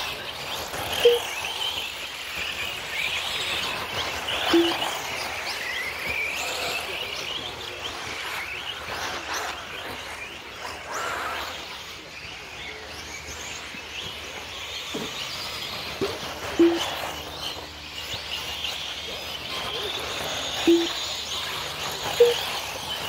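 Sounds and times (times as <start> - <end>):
rc car motors whining: 0.0 - 23.0.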